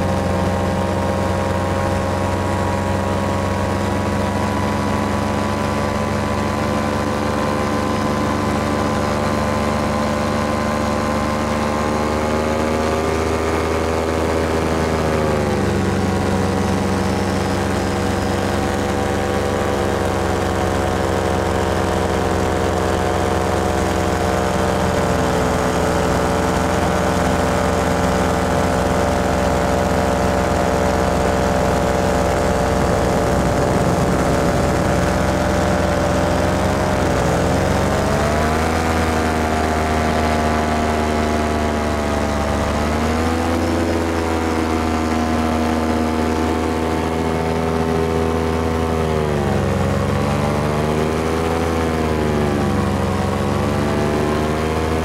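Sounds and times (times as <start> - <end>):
paramotor engine droning: 0.0 - 55.0.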